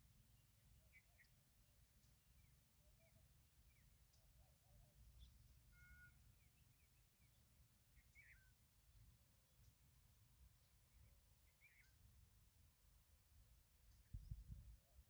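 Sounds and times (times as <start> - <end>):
small birds chirping: 0.2 - 12.8, 13.6 - 15.0.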